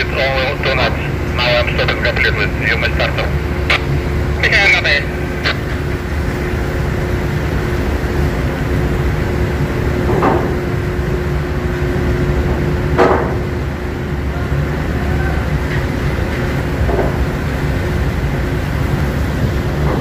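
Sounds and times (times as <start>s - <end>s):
constant hum: 0.0s - 20.0s
low mechanical rumble: 0.0s - 20.0s.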